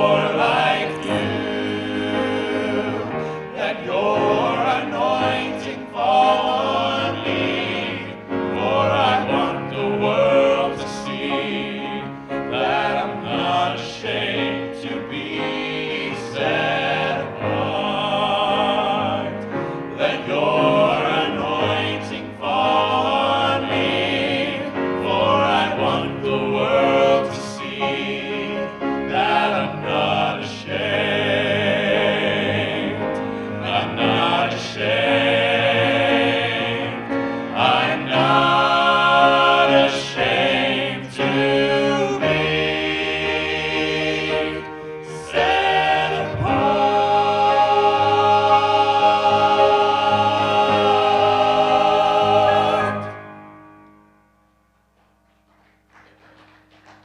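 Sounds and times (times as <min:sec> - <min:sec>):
vocal group singing gospel: 0:00.0 - 0:53.3
musical accompaniment: 0:00.0 - 0:57.0.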